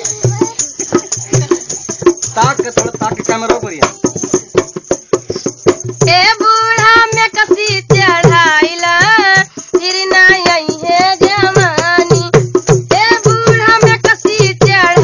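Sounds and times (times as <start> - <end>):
quick drum beats: 0.0 - 15.0.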